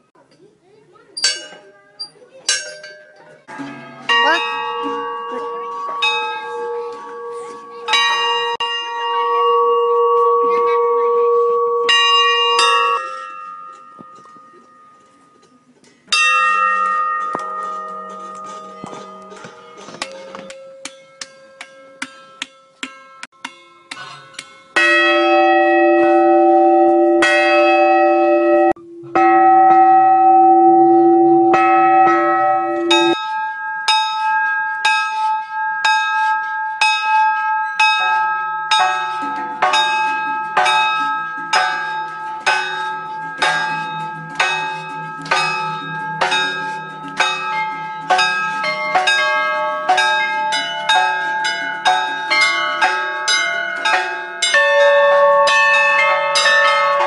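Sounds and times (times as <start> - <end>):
bells being struck: 2.5 - 57.0.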